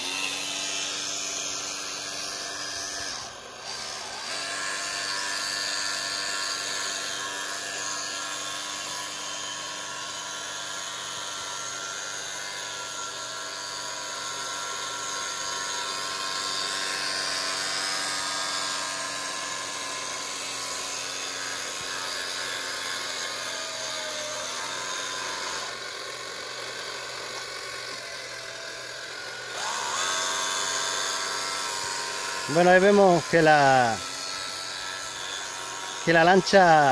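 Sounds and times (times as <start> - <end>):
model boat electric motors whining: 0.0 - 36.9.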